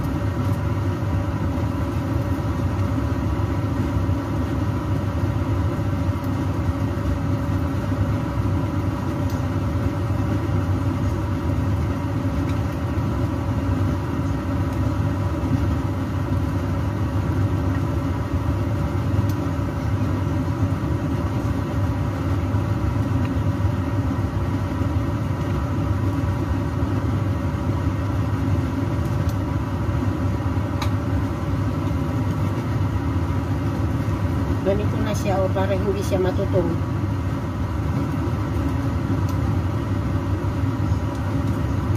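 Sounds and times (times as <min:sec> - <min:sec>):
food frying: 0:00.0 - 0:41.9
low kitchen hum: 0:00.0 - 0:41.9.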